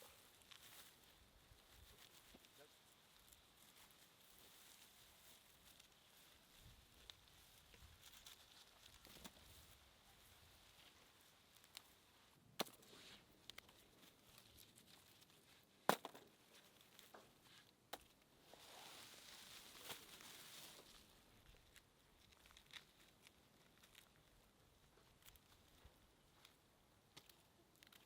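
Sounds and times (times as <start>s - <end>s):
rustling: 0.0s - 28.0s.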